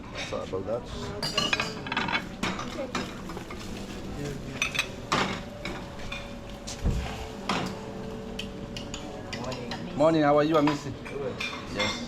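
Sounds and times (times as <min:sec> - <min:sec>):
dishes and cutlery clinking: 0:00.0 - 0:12.0
faint background chatter: 0:00.0 - 0:12.0.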